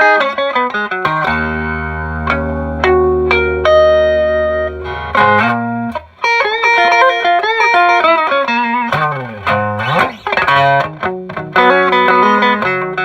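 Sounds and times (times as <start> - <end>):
electric guitar notes and chords: 0.0 - 13.0.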